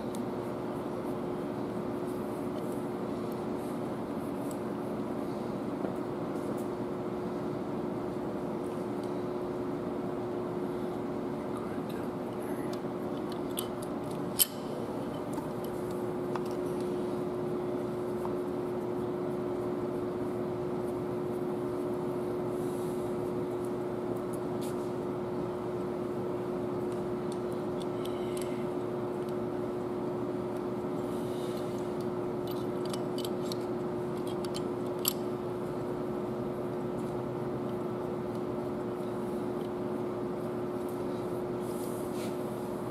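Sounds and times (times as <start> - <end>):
workshop background hum: 0.0 - 42.9.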